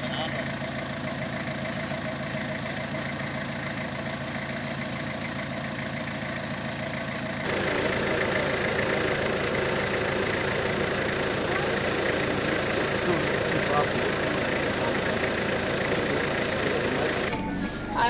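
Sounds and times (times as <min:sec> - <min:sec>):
minivan engine idling: 0:00.0 - 0:18.0.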